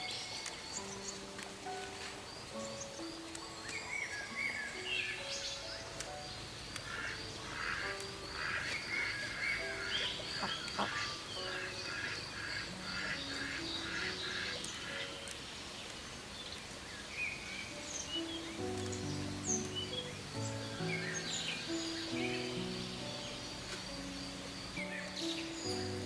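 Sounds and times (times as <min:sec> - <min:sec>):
birds chirping and calling: 0:00.0 - 0:26.0
soft background music: 0:00.0 - 0:26.0.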